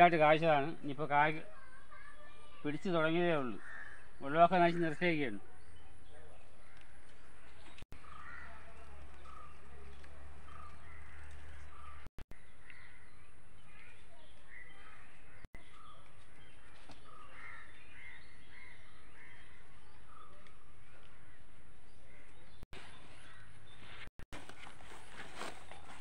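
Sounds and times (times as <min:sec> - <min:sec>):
birds calling: 0:00.0 - 0:26.0.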